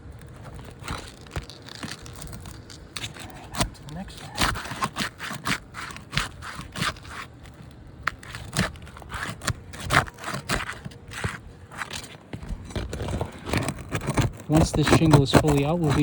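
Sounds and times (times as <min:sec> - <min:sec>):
roof shingles scraping and crackling: 0:00.0 - 0:16.0.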